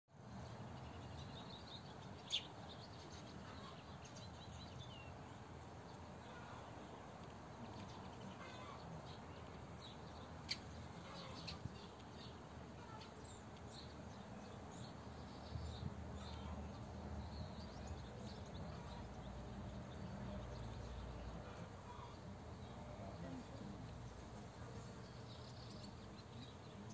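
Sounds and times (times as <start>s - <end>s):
small birds chirping: 0.2s - 26.9s.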